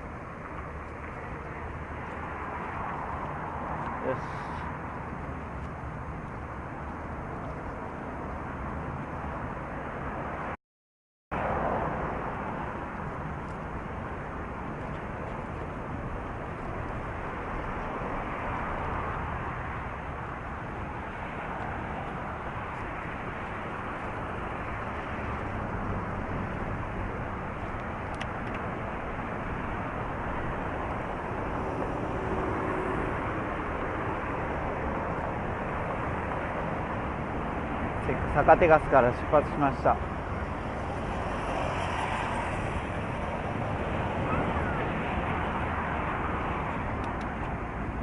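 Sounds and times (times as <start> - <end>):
road traffic: 0.0 - 10.6, 11.3 - 48.0.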